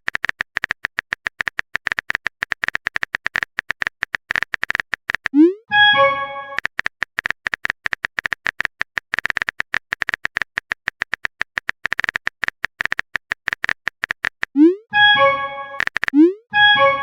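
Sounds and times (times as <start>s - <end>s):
keyboard typing clicks: 0.0s - 17.0s.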